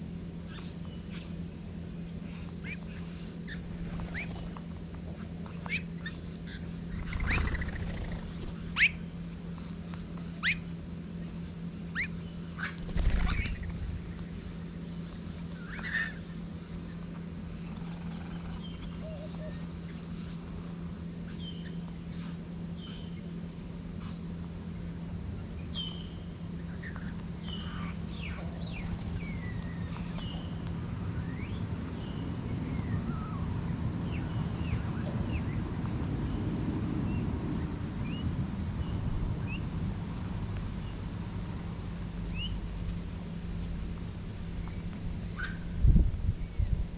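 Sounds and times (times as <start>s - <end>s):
steady high whine: 0.0s - 46.9s
birds calling and chirping: 0.4s - 23.4s, 25.2s - 46.9s.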